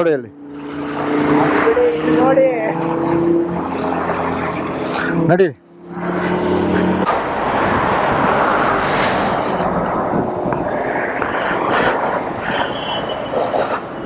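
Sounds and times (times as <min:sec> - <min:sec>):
highway traffic road noise: 0:00.0 - 0:14.0
vehicle passing by: 0:00.0 - 0:14.0.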